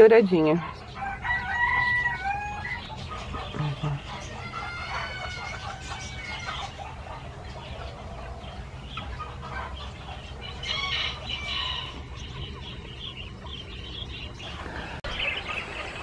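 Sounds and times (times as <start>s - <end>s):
bantam chickens clucking and calling: 0.0s - 16.0s.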